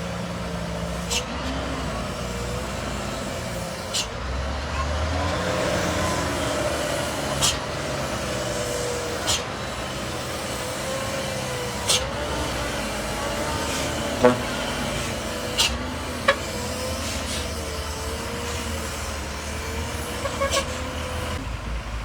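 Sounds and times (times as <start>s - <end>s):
road noise: 0.0s - 22.0s
truck engine rumbling: 0.0s - 22.0s.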